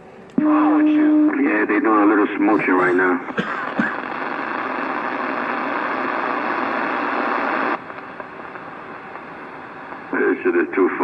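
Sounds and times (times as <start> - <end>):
two-way radio static hiss: 0.4 - 11.0.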